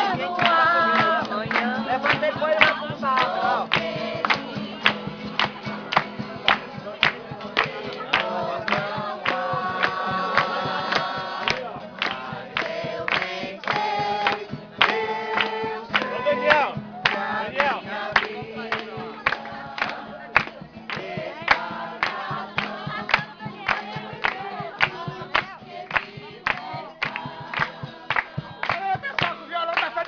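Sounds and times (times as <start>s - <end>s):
group singing worship song: 0.0s - 30.0s
rhythmic hand-clapping: 0.0s - 30.0s.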